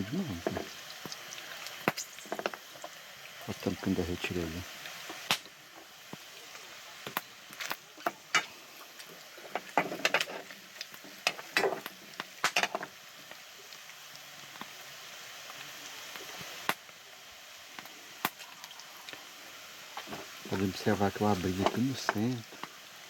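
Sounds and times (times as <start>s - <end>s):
meat sizzling in hot fat: 0.0s - 23.0s.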